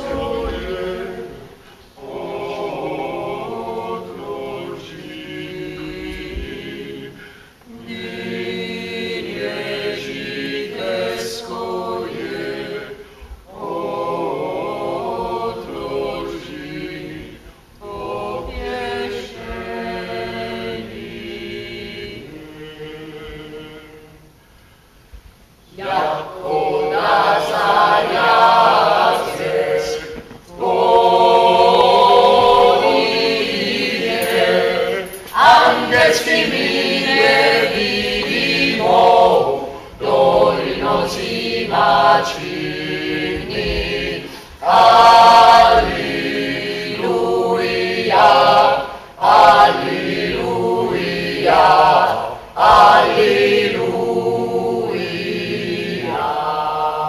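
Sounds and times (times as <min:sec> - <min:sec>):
choir of men and women singing: 0:00.0 - 0:57.0.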